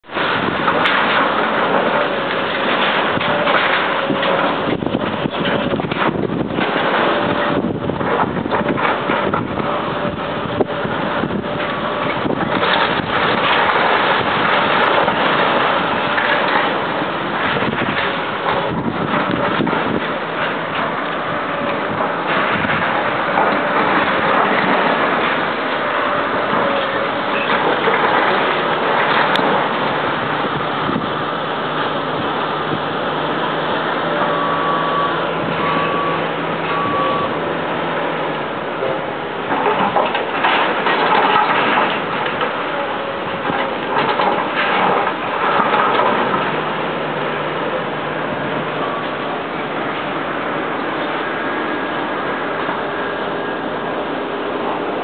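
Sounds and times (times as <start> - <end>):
heavy diesel machinery running: 0.0 - 55.0
rubble clanking and clattering: 0.1 - 55.0.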